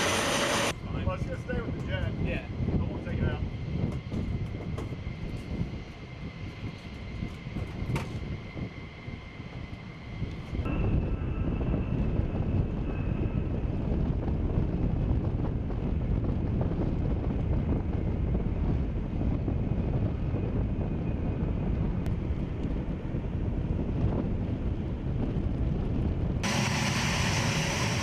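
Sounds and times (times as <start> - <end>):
jet engines rushing: 0.0 - 22.2, 26.4 - 28.0
high engine whine: 0.0 - 25.2, 26.4 - 28.0.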